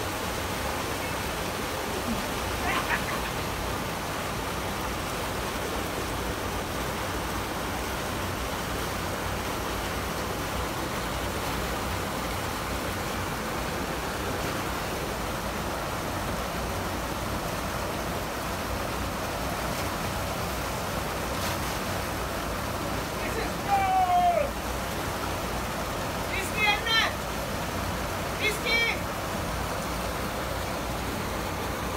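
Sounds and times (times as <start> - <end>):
water rushing over a weir: 0.0 - 31.9.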